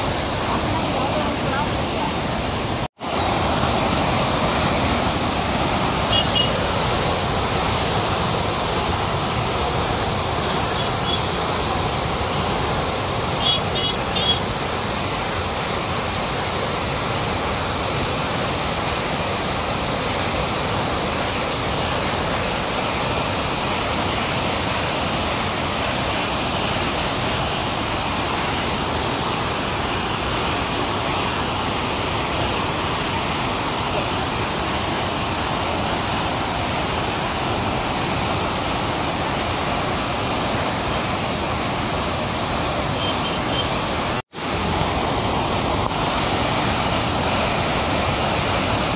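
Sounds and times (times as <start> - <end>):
rush of falling water: 0.0 - 48.9.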